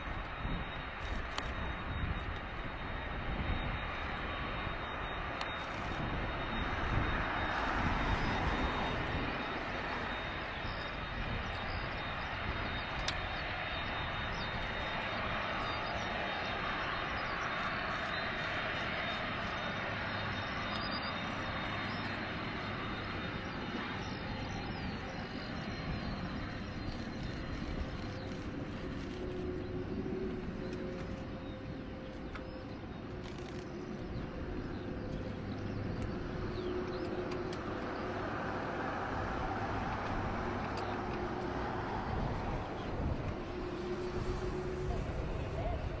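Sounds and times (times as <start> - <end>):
engine humming: 5.2 - 46.0.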